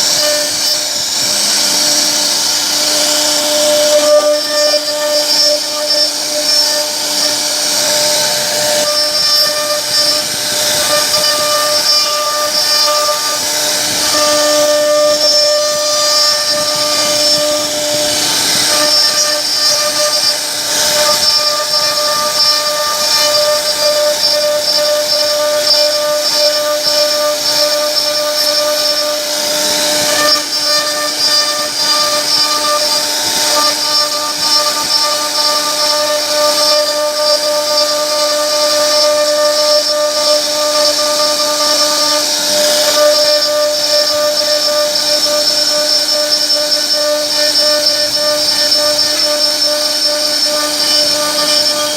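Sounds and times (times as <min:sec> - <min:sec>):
router spindle whining: 0:00.0 - 0:51.9.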